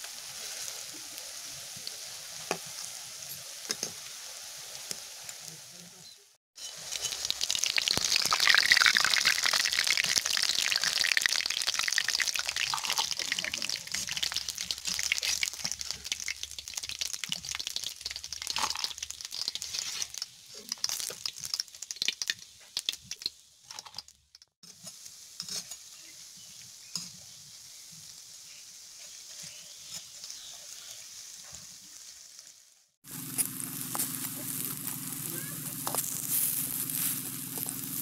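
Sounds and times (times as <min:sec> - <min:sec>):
fritters sizzling in oil: 0:00.0 - 0:38.0.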